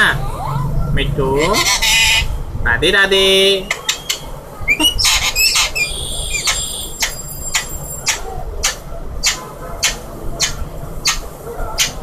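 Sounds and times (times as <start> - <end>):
parakeet squawking and chirping: 0.0 - 2.4, 3.5 - 12.0.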